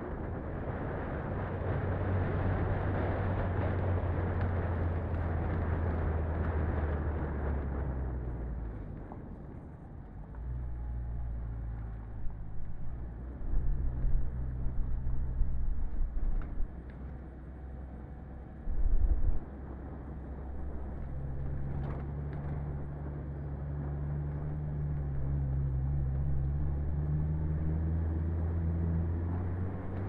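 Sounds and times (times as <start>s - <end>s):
low engine hum: 0.0s - 30.0s
vehicle rumbles and knocks: 0.0s - 30.0s.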